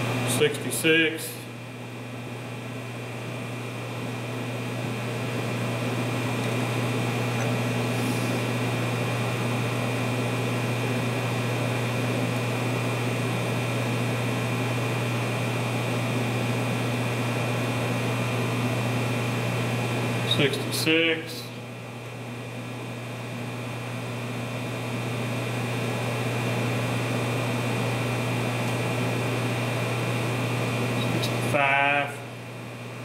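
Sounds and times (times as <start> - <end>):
machinery hum with low drone: 0.0 - 33.0.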